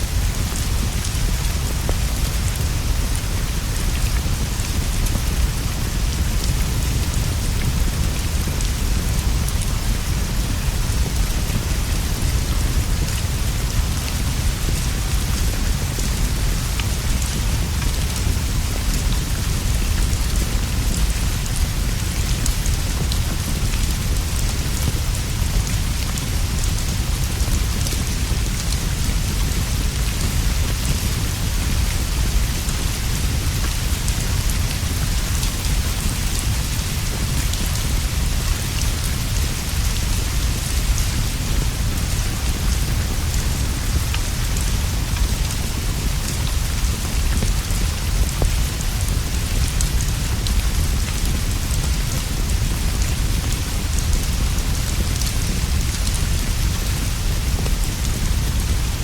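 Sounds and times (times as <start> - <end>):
steady rain falling: 0.0 - 59.0
crackling wood fire: 0.1 - 54.2, 54.8 - 58.5.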